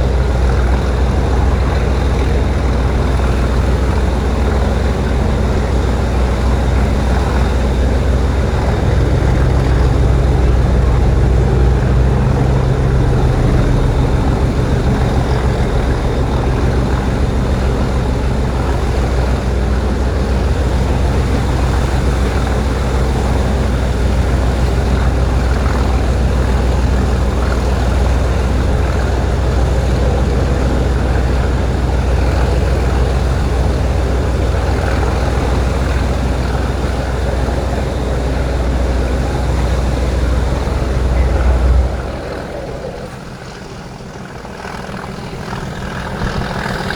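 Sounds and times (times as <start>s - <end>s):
locomotive diesel engine drone: 0.0s - 46.9s.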